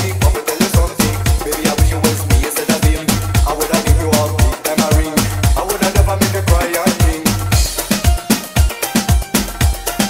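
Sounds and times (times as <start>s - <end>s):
dance music with fast beat: 0.0s - 10.0s.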